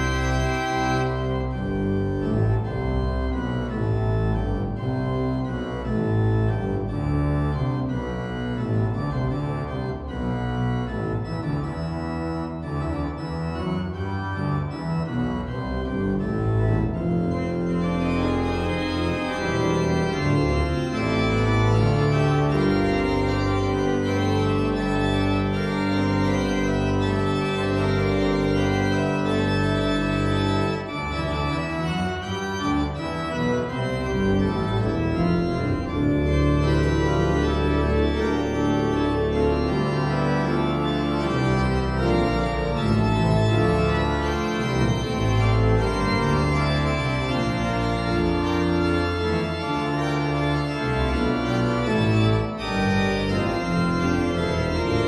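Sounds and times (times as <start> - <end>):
church organ playing: 0.0 - 55.0.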